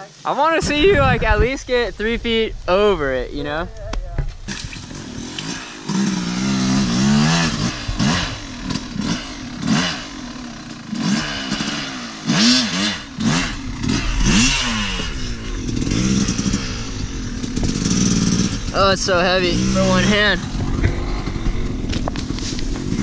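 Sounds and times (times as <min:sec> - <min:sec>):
dirt bike engine revving: 0:04.4 - 0:23.0.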